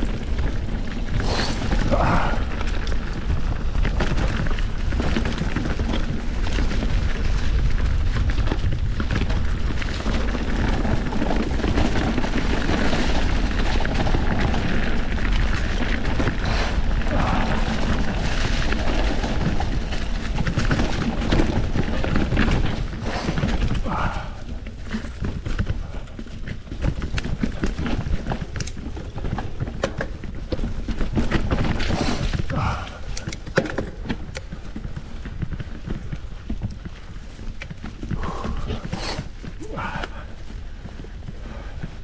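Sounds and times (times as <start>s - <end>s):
bike rattling and knocking: 0.0s - 42.0s
wind rumbling on microphone: 0.0s - 42.0s.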